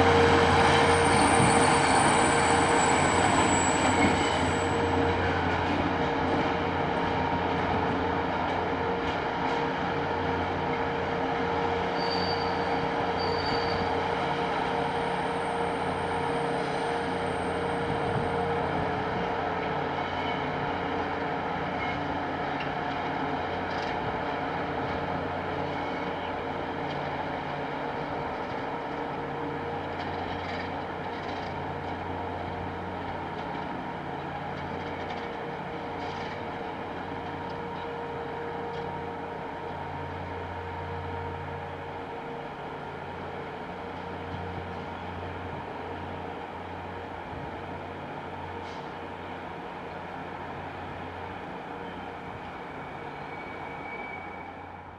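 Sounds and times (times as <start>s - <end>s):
diesel train engines droning: 0.0s - 54.9s.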